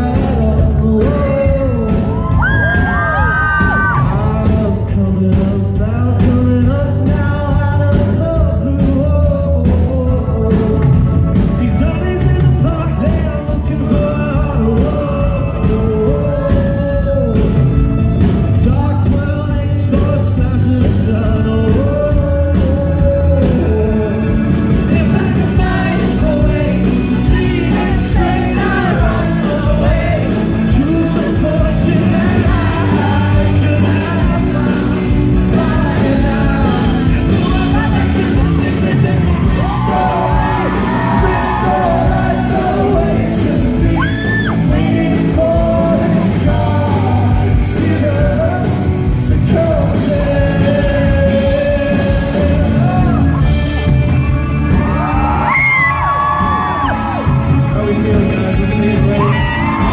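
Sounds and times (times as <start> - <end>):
man singing: 0.0 - 53.9, 55.0 - 59.9
live rock band: 0.0 - 59.9
steady drum beat: 0.0 - 59.9.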